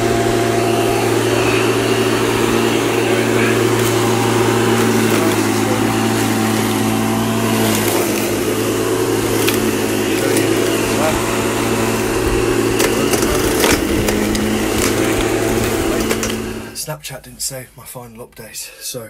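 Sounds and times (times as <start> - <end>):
electric lawn mower cutting grass: 0.0 - 16.8.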